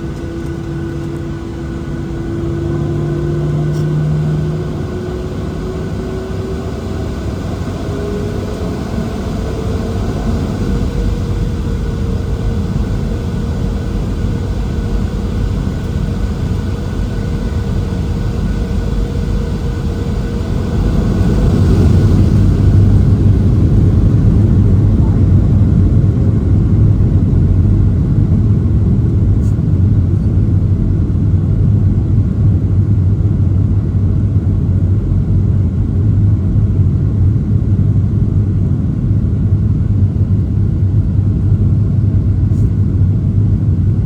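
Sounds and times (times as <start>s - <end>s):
jet engine whine: 0.0s - 44.0s
takeoff roll rumble: 0.0s - 44.0s.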